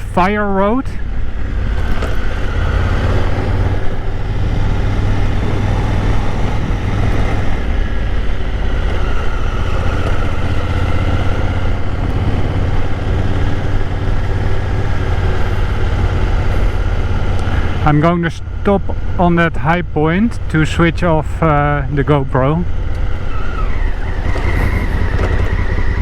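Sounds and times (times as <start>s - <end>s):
motorcycle engine running at low speed: 0.0s - 26.0s.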